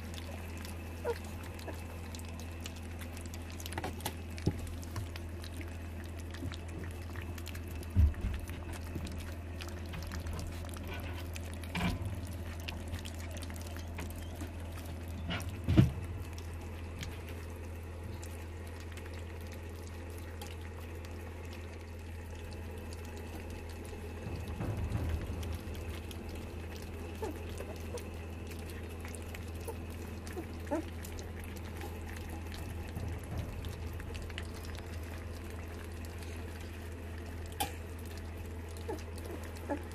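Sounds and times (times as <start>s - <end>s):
low hum: 0.0s - 39.9s
puppies lapping and slurping: 0.0s - 39.9s.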